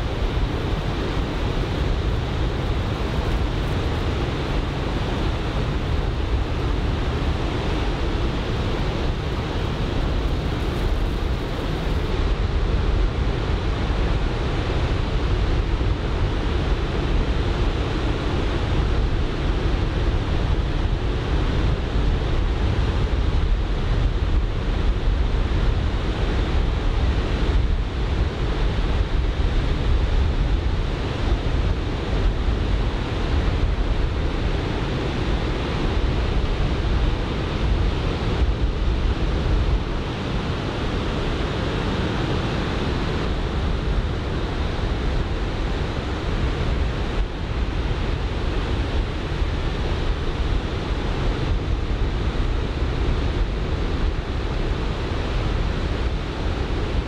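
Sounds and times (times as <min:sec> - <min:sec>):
wind rumbling on microphone: 0:00.0 - 0:57.0.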